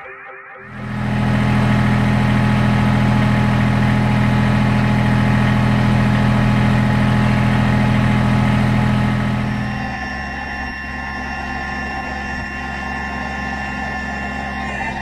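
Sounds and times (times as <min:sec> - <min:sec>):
tractor diesel engine idling: 0:00.7 - 0:15.0.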